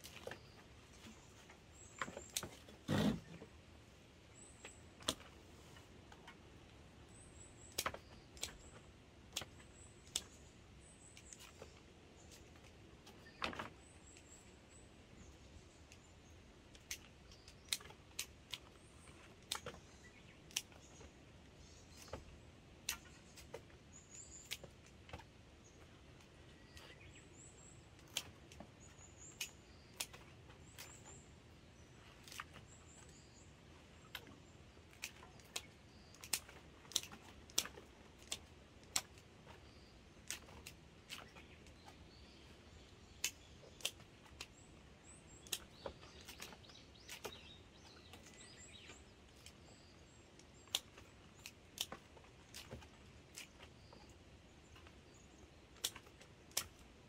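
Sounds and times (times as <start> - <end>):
birds chirping faintly: 0.0 - 57.0.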